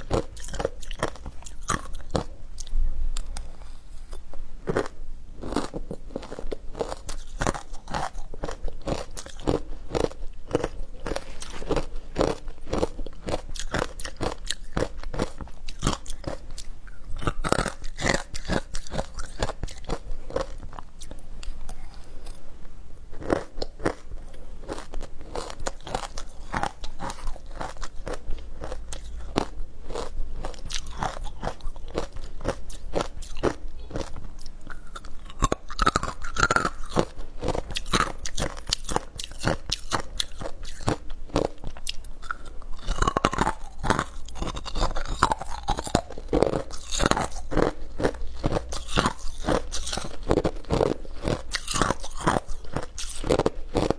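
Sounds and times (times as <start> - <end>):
crunchy ice being chewed: 0.0 - 22.4, 23.1 - 53.9.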